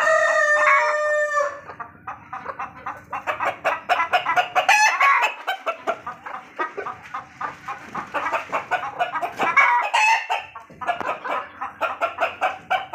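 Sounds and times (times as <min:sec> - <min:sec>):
chickens clucking: 0:00.0 - 0:12.9
drawn-out pitched chicken call: 0:00.0 - 0:12.9.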